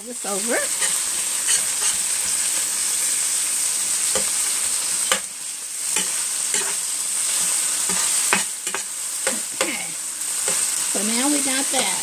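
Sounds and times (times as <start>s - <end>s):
meat sizzling in a pan: 0.0s - 12.0s
metal spatula scraping a pan: 0.6s - 3.4s, 4.0s - 10.8s.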